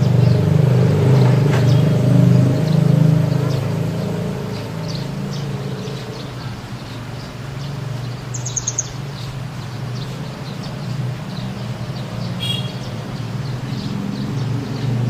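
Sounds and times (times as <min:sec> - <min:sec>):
small birds chirping: 0:00.0 - 0:15.0
bird trill: 0:01.2 - 0:14.9.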